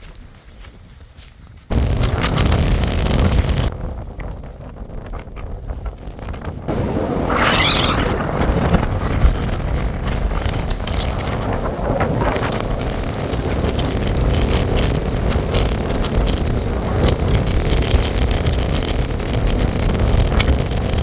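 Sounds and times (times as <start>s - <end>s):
strong wind buffeting microphone: 1.7s - 21.0s.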